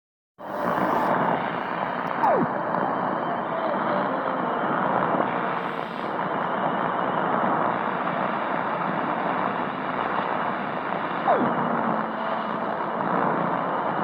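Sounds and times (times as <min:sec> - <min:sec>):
faint interfering tones: 0:00.4 - 0:14.0
radio static hiss: 0:00.4 - 0:14.0.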